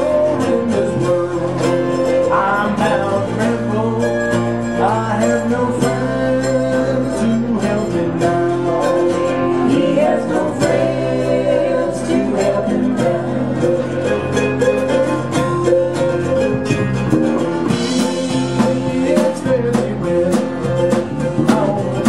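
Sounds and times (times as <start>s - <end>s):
man singing: 0.0s - 15.0s, 16.0s - 22.0s
picked mandolin: 0.0s - 22.0s
strummed acoustic guitar: 0.0s - 22.0s.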